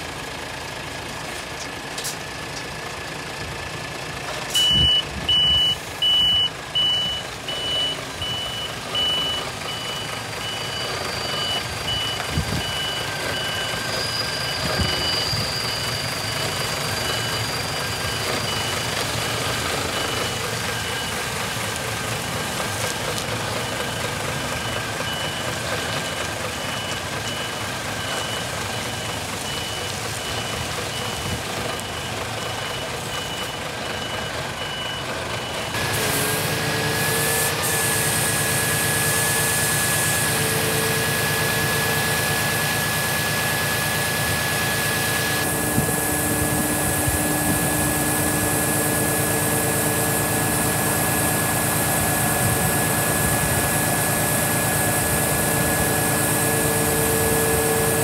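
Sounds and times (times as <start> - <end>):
diesel truck engine running: 0.0 - 58.0
hydraulic whine: 4.5 - 34.2, 35.6 - 58.0.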